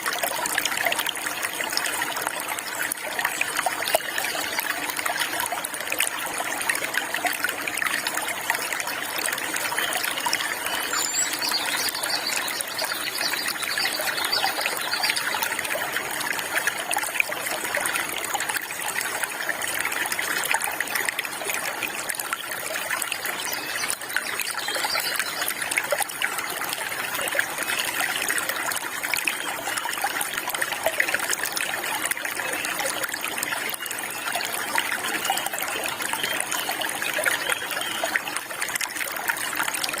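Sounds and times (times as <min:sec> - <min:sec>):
stream water trickling: 0:00.0 - 0:40.0.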